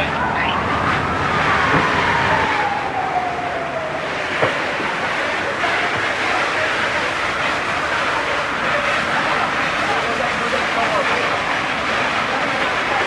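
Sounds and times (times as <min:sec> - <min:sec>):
emergency vehicle siren: 0:00.0 - 0:13.0
rushing vehicle noise: 0:00.0 - 0:13.0.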